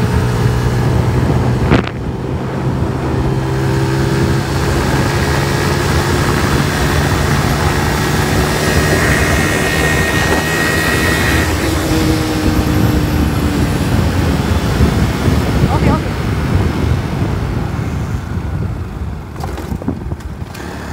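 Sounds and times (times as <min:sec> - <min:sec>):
motorcycle engine cruising: 0:00.0 - 0:20.9
wind rush on microphone: 0:00.0 - 0:20.9.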